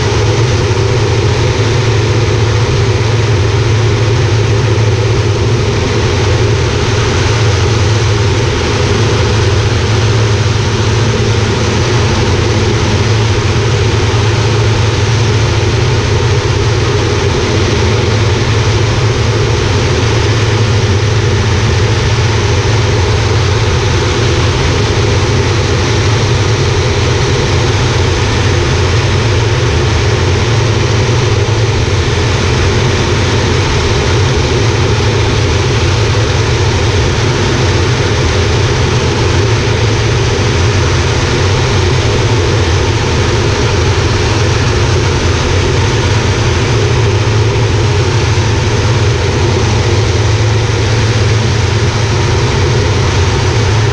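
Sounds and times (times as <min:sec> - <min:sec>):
turboprop engine drone: 0:00.0 - 0:53.9.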